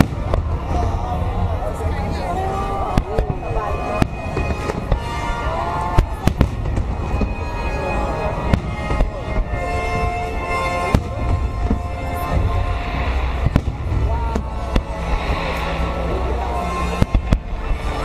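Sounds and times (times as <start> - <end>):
fireworks bangs: 0.0 - 18.0
low rumble: 0.0 - 18.0
music playing: 0.0 - 18.0.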